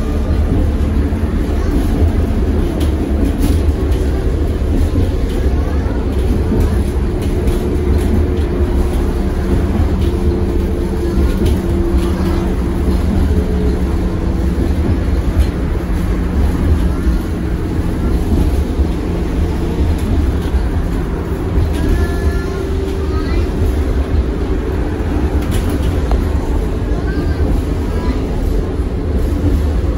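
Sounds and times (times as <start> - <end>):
tram rumbling and humming: 0.0 - 29.9.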